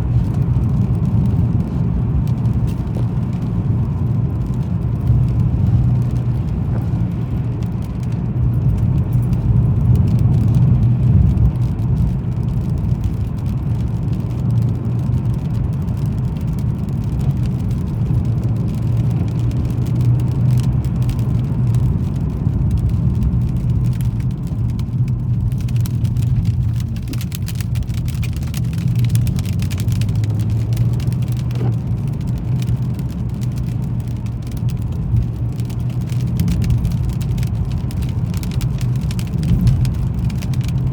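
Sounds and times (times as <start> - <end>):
car engine and tyres rumbling: 0.0 - 40.9
light crackling ticks: 0.0 - 40.9.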